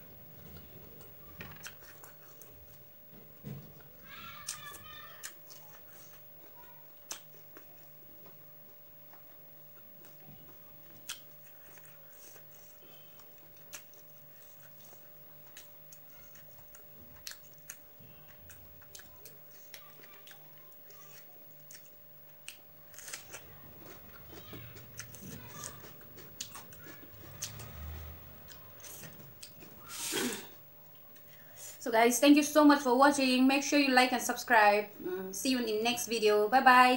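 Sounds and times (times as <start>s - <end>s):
faint steady hum: 0.0s - 36.9s
person chewing food: 0.4s - 31.8s.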